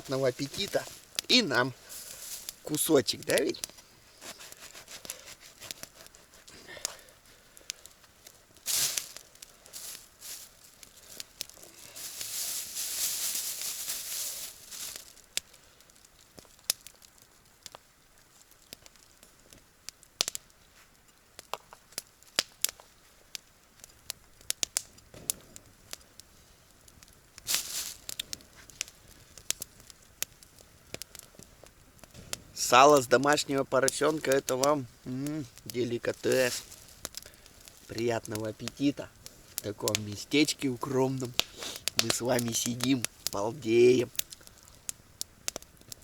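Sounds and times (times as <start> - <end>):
campfire crackling and popping: 0.0 - 46.0
rustling crinkling noise: 0.0 - 46.0.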